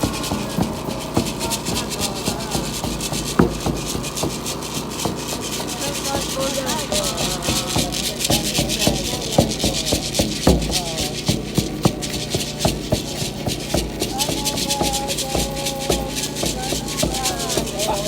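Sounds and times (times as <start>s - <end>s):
knocks: 0.0s - 18.0s
many voices: 0.0s - 18.0s
rhythmic rasping strokes: 0.0s - 18.0s.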